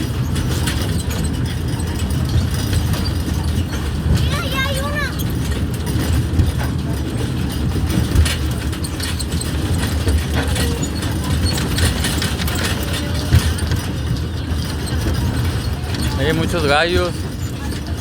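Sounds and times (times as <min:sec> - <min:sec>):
small train rumbling: 0:00.0 - 0:18.0
train cars clattering: 0:00.0 - 0:18.0.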